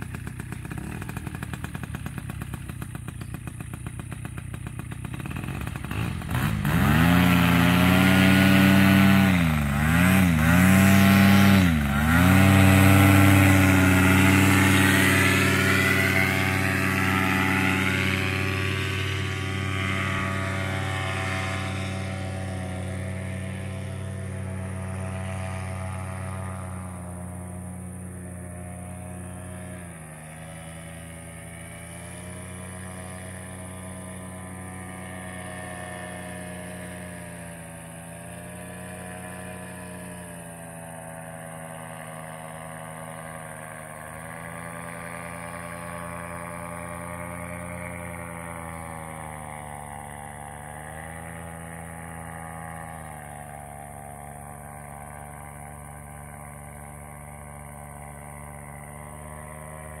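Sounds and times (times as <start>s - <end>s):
paramotor engine droning overhead: 0.0s - 60.0s.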